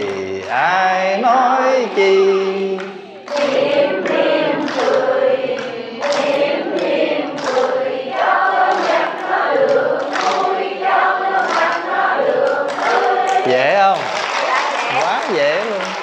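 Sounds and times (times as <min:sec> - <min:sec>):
congregation singing: 0:00.0 - 0:15.2.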